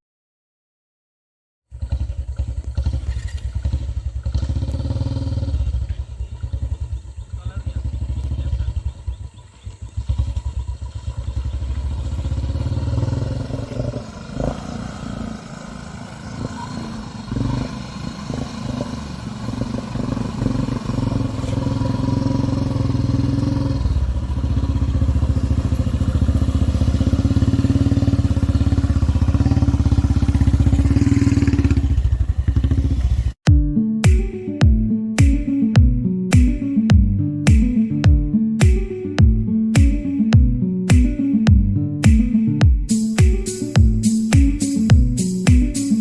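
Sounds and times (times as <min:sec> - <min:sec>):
motorcycle engine rumble: 0:01.7 - 0:46.0.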